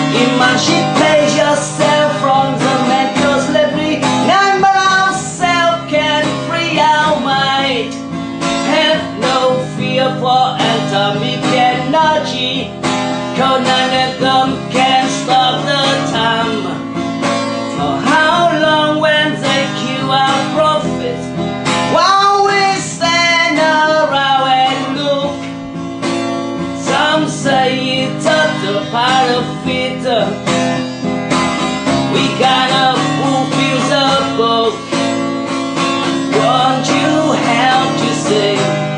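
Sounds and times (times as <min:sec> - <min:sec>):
acoustic guitar strummed and picked: 0:00.0 - 0:38.9.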